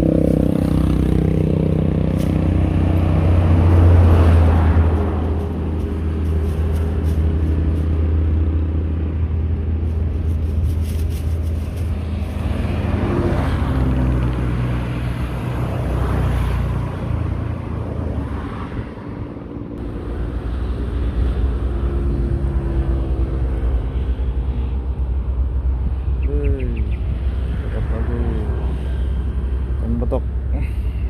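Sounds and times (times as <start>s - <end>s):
highway traffic passing: 0.0s - 31.0s.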